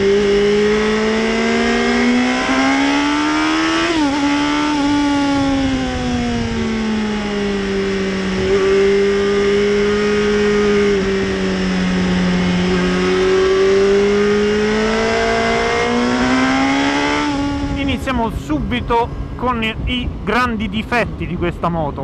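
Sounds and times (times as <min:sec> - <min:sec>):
motorcycle engine at road speed: 0:00.0 - 0:21.6
wind noise: 0:01.9 - 0:22.0.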